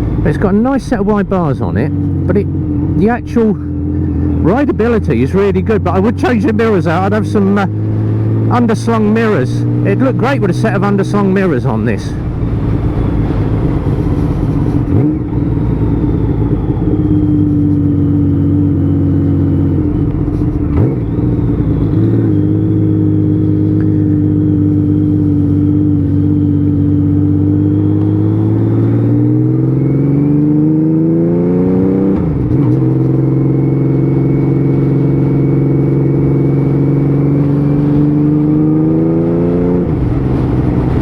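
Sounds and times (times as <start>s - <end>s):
motorcycle engine: 0.0s - 41.0s.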